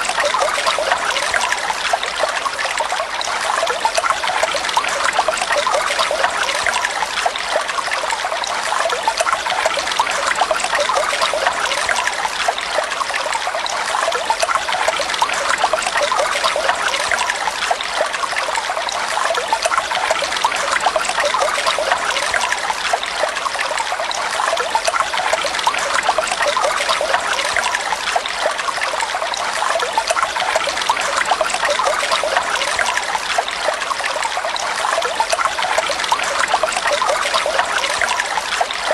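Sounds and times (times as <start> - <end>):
water flowing and trickling: 0.0 - 38.9.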